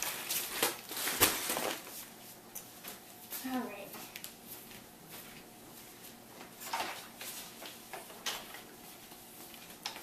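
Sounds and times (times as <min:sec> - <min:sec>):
footsteps in kitchen: 0:00.0 - 0:10.0.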